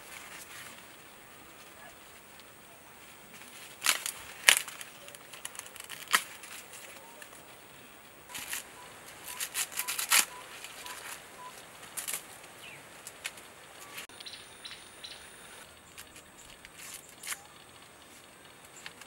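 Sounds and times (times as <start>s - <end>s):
maize husk crackling and tearing: 0.0s - 14.4s, 15.0s - 19.0s.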